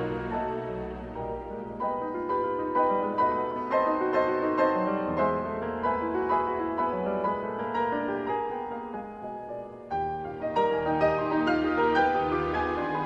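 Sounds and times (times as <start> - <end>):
classical piano music: 0.0 - 13.0.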